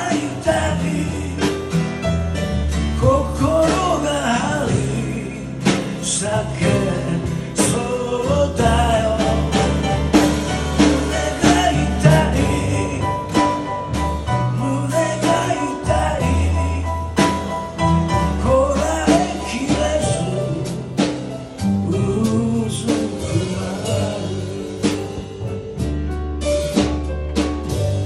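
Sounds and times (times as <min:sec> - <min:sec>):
man singing blues: 0:00.0 - 0:25.6.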